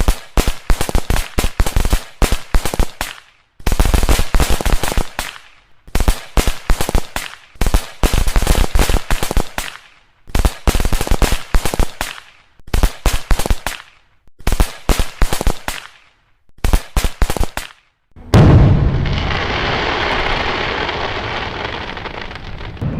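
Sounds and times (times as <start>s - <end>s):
firecrackers cracking: 0.0s - 22.9s.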